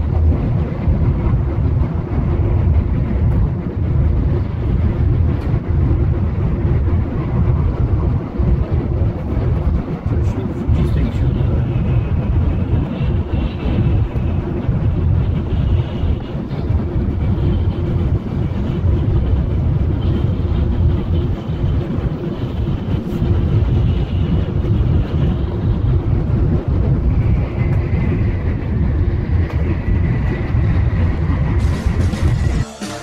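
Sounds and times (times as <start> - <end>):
train running at speed: 0.0 - 33.0.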